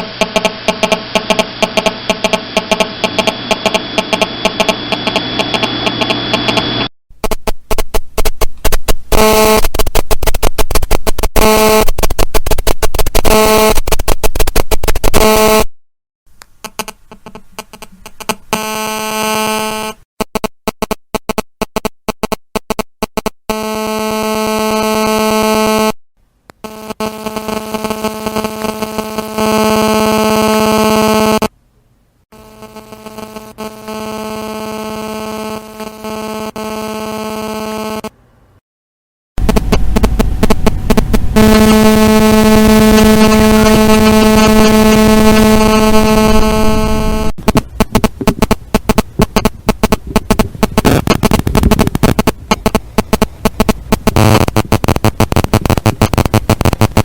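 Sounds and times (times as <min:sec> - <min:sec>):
phone interference buzz in speaker: 0:00.0 - 0:15.7, 0:16.6 - 0:26.0, 0:26.6 - 0:31.5, 0:32.3 - 0:38.2, 0:39.4 - 0:57.0.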